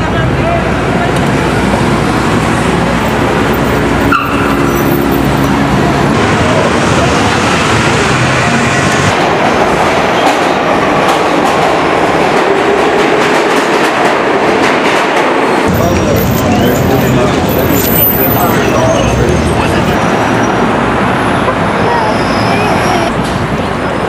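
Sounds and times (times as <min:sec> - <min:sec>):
street traffic: 0:00.0 - 0:24.0
subway train running in station: 0:00.0 - 0:24.0.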